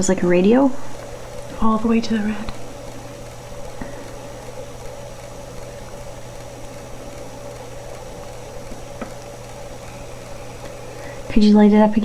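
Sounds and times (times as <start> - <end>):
faint high steady whine: 0.0 - 12.0
low electrical hum: 0.0 - 12.0
steady background hiss: 0.0 - 12.0.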